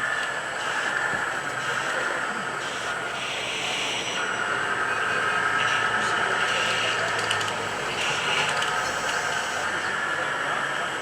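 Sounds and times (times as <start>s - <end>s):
faint voices: 0.8s - 11.0s.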